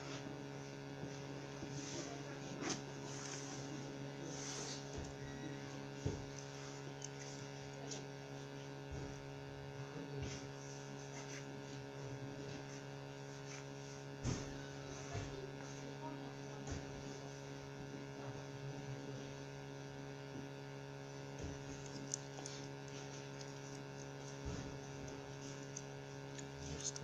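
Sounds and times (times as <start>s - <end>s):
steady electrical hum: 0.0s - 27.0s.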